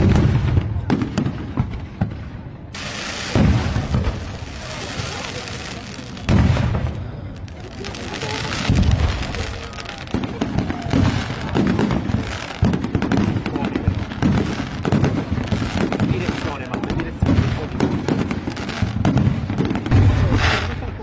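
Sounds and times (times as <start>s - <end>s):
fireworks booming: 0.0s - 21.0s
fireworks crackling: 0.0s - 21.0s.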